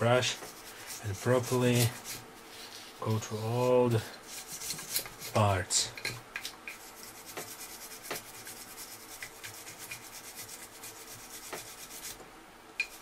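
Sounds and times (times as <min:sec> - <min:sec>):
brush scrubbing metal: 0:00.0 - 0:06.0, 0:06.7 - 0:12.2, 0:12.8 - 0:13.0.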